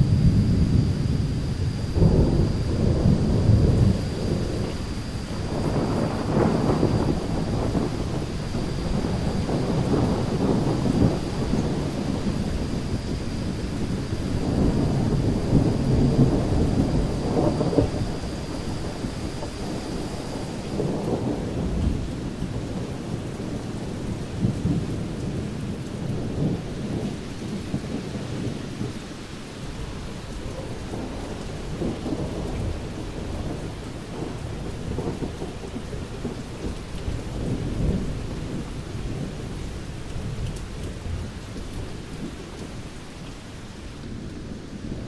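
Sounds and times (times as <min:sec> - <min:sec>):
rolling thunder: 0:00.0 - 0:45.0
steady rain: 0:00.0 - 0:45.0.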